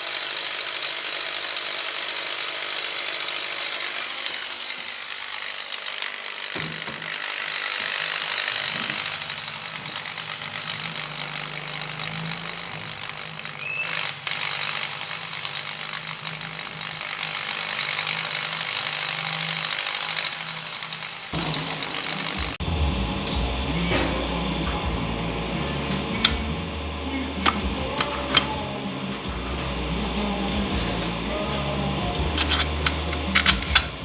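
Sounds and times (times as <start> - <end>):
machine tool hissing and grinding: 0.0 - 34.0.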